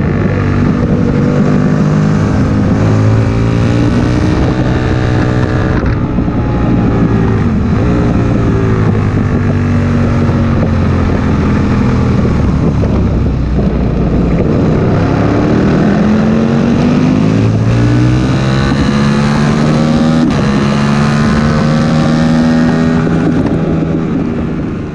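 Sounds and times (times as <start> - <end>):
motorcycle engine revving: 0.0 - 24.9
wind rushing over microphone: 0.0 - 24.9.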